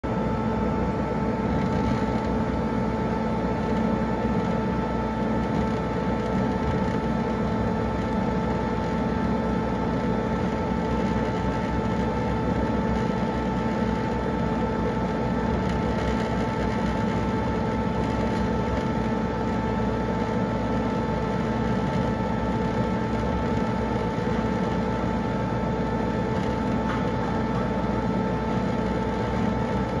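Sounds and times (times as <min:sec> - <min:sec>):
laser cutter drone and whine: 0:00.0 - 0:30.0.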